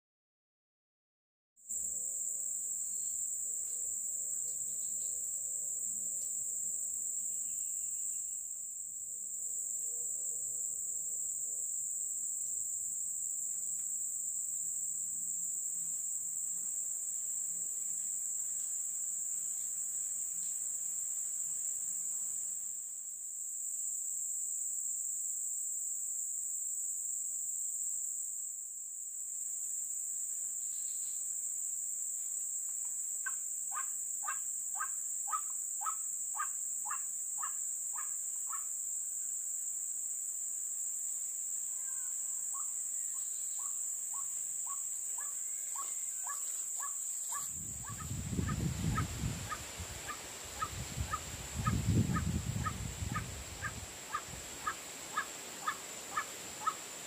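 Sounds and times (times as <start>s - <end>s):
high insect drone: 1.6s - 57.0s.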